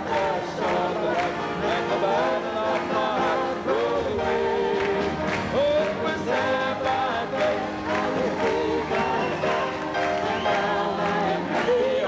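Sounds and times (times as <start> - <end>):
gospel worship music: 0.0 - 12.0
group of singers: 0.0 - 12.0.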